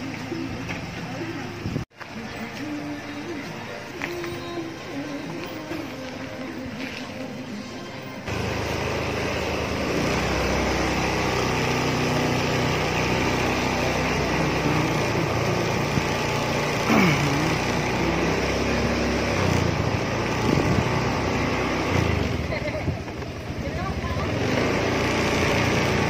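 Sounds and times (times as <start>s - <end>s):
slow vehicle engines humming: 0.0s - 26.0s.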